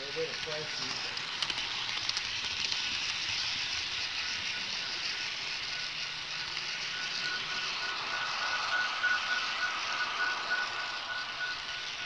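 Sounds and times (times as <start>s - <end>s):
model train wheels hissing on rail: 0.0s - 12.0s.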